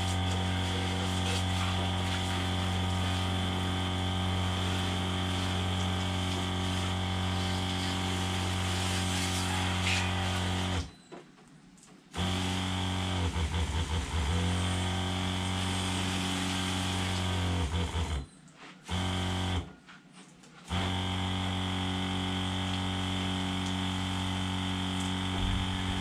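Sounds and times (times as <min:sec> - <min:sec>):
water spraying from sprayer: 0:00.0 - 0:10.9, 0:12.2 - 0:18.2, 0:20.7 - 0:26.0
water pump motor hum: 0:00.0 - 0:11.0, 0:12.1 - 0:19.7, 0:20.6 - 0:26.0.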